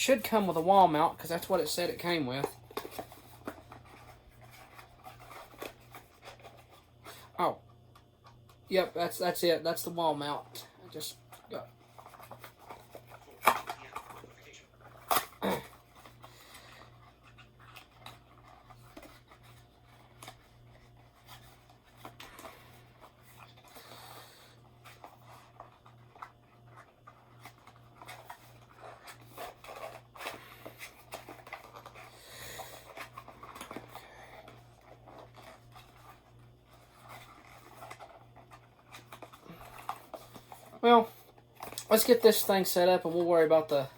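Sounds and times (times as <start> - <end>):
cardboard packaging rubbing and clicking: 2.4 - 7.4, 11.2 - 42.4.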